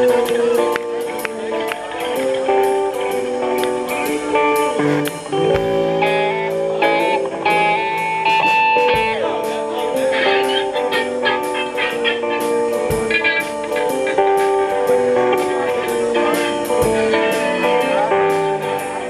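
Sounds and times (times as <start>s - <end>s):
drum kit steady beat: 0.0s - 19.0s
electric guitar melody: 0.0s - 19.0s.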